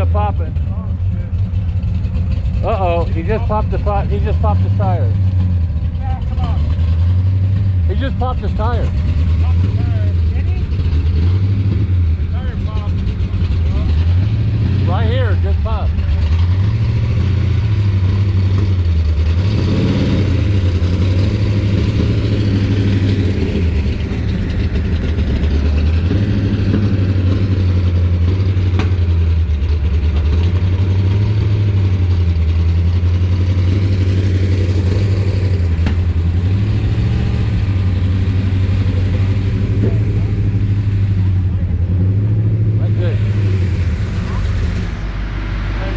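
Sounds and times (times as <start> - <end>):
loud car engine idling: 0.0 - 45.9.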